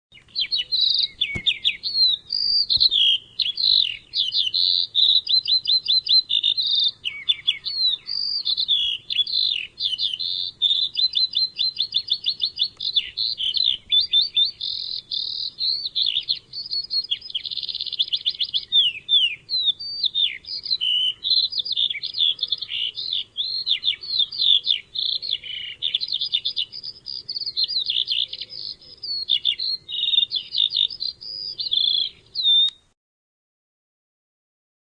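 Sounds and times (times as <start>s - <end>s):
songbird trilling and chirping: 0.1s - 32.9s.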